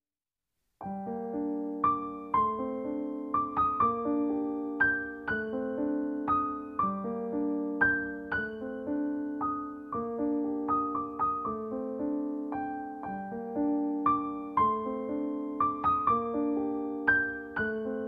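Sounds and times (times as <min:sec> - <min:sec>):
soft solo piano melody: 0:00.8 - 0:18.0.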